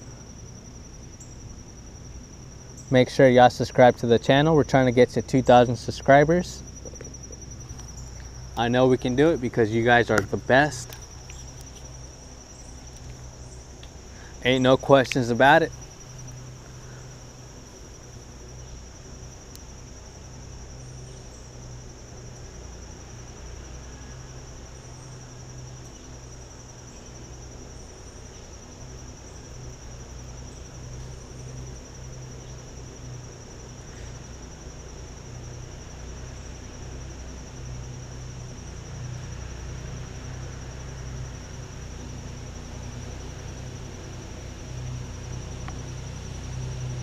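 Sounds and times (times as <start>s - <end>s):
insect trilling: 0.0s - 47.0s.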